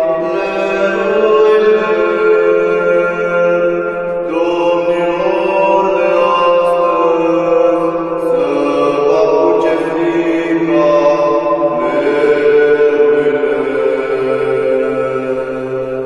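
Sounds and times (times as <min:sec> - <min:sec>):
low drone: 0:00.0 - 0:16.0
men singing a carol: 0:00.0 - 0:16.0.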